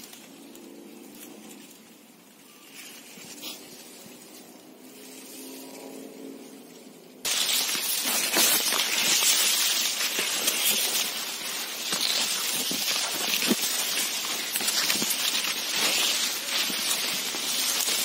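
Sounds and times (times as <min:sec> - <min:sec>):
rustling of maize leaves: 0:00.0 - 0:18.0.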